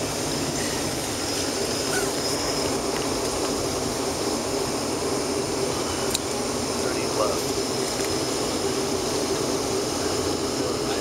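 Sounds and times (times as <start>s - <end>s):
air-conditioning hiss: 0.0s - 11.0s
faint high whine: 0.0s - 11.0s
jet engine cabin hum: 0.0s - 11.0s.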